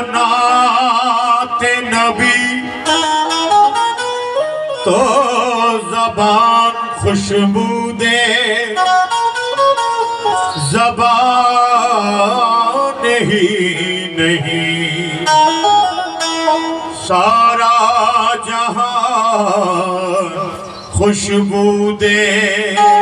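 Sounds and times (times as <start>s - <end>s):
person singing: 0.0s - 4.0s, 4.6s - 23.0s
harmonium melody: 0.0s - 23.0s.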